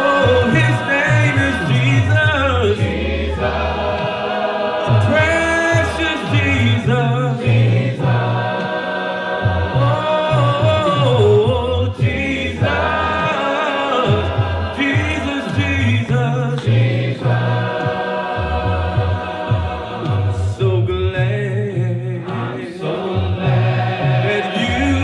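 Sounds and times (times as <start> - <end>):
choir singing gospel song: 0.0 - 25.0.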